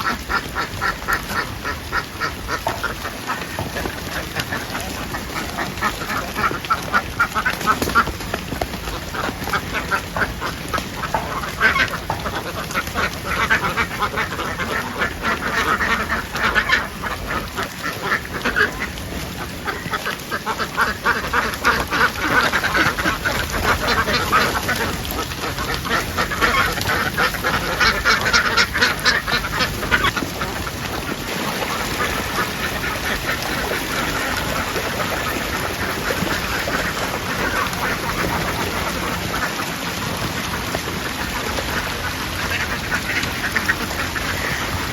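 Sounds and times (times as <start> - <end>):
ducks quacking: 0.0 - 44.9.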